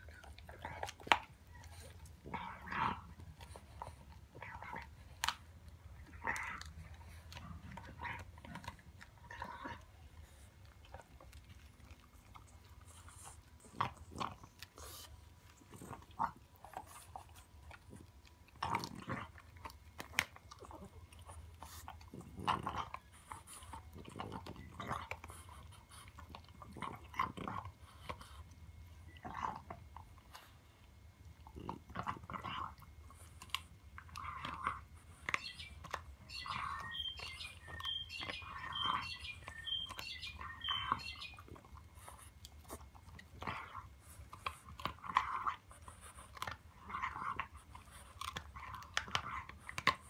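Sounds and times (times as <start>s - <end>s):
puppy chewing bone: 0.0s - 50.0s.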